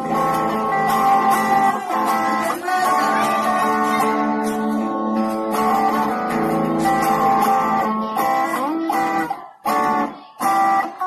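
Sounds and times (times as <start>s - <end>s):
electric guitar playing: 0.0s - 11.0s.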